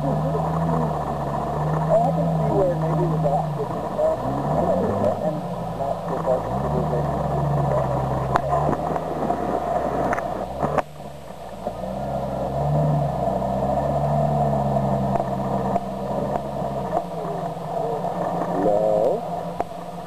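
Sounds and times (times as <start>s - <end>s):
engine working at low speed: 0.0s - 20.0s.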